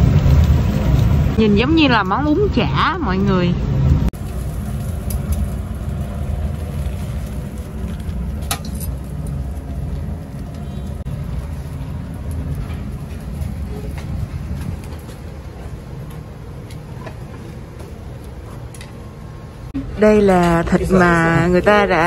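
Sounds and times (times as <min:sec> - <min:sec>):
charcoal fire rumbling and crackling: 0:00.0 - 0:22.0.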